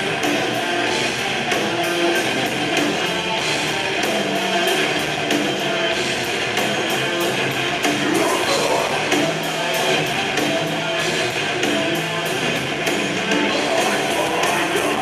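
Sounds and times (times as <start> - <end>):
drums: 0.0 - 15.0
electric guitars: 0.0 - 15.0.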